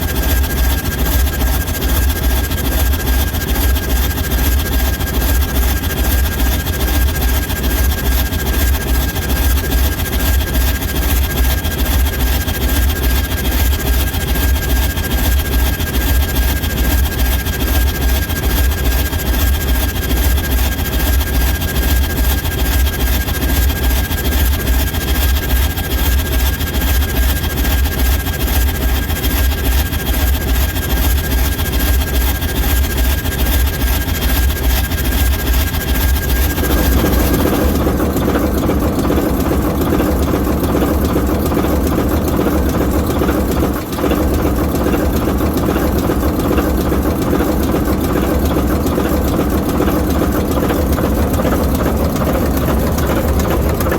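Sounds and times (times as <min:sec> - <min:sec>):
diesel locomotive engine running: 0:00.0 - 0:53.9.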